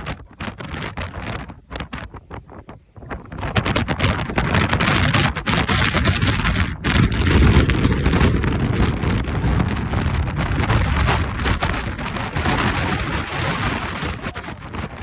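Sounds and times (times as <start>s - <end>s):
strong wind blasting microphone: 0.0s - 15.0s.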